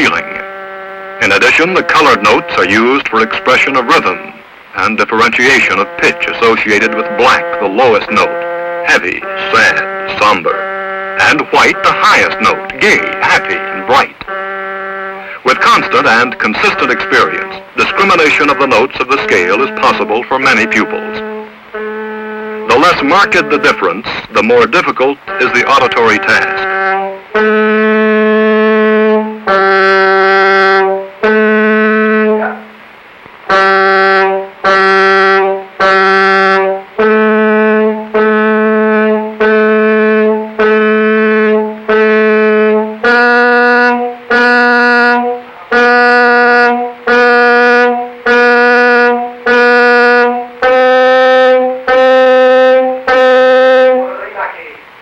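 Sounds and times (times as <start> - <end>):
instrument playing held notes: 0.0 - 54.4.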